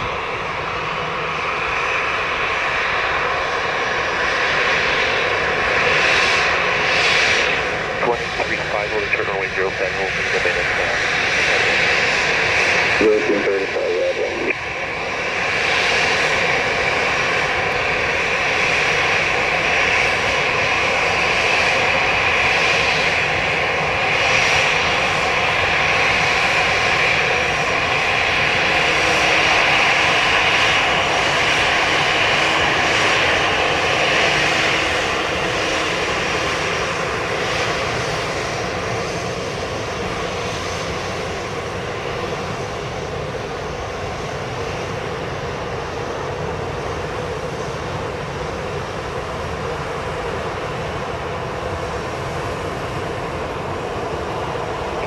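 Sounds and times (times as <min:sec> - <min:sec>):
jet engines whining at taxi power: 0:00.0 - 0:55.0.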